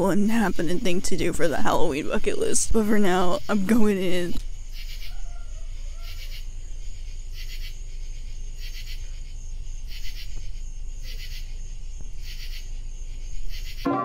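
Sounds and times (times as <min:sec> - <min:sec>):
insects trilling: 0:00.0 - 0:13.9
low steady rumble: 0:00.0 - 0:13.9
pulsing insect chirp: 0:00.0 - 0:14.0.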